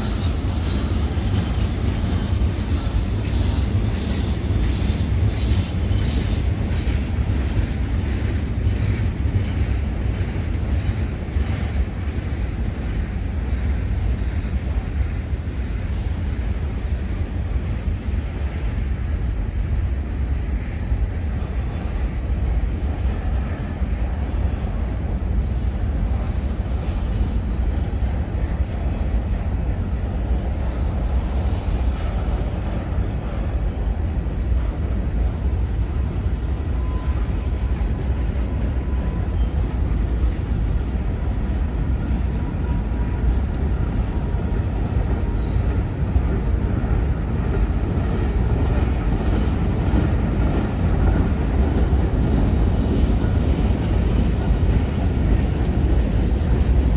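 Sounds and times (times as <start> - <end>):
train passing rumble: 0.0 - 56.9.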